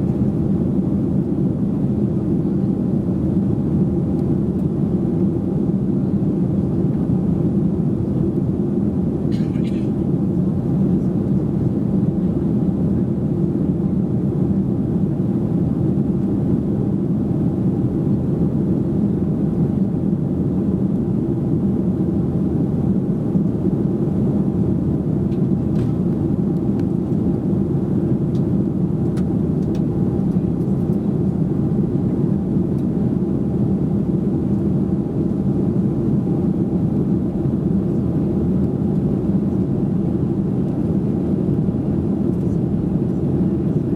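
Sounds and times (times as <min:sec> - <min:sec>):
airplane cabin engine drone: 0:00.0 - 0:43.9.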